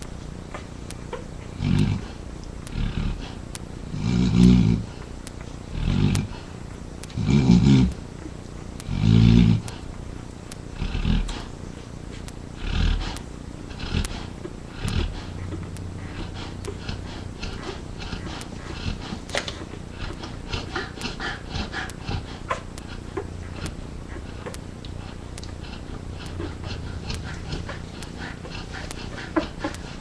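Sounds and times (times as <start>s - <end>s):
dog breathing heavily and snoring: 0.0s - 30.0s
puppies suckling clicks: 0.0s - 30.0s.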